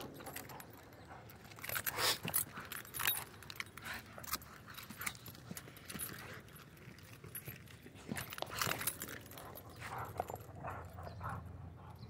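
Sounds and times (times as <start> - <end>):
dog collar tags jingling: 0.0 - 12.0.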